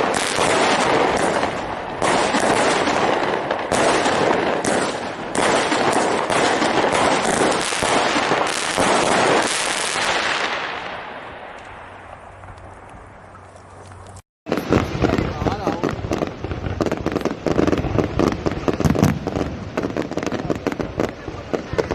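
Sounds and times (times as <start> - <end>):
fireworks barrage: 0.0 - 13.8, 14.5 - 21.9.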